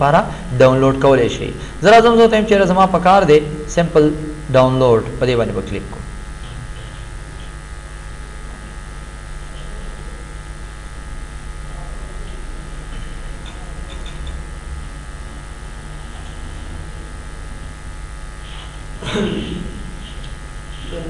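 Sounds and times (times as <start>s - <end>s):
electrical buzz: 0.0s - 21.0s
low mains hum: 0.0s - 21.0s.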